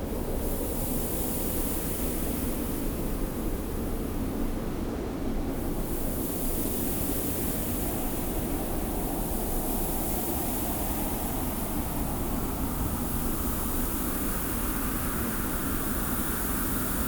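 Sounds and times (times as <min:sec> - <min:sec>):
steady wind with low rumble: 0:00.0 - 0:17.0.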